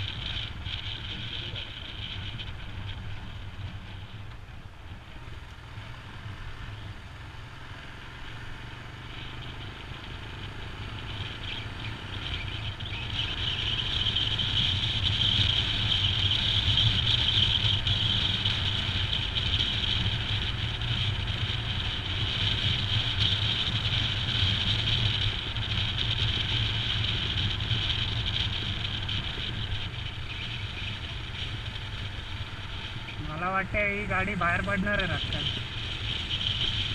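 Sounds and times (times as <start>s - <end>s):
motorcycle engine running: 0.0s - 36.9s
road and wind noise: 0.0s - 36.9s.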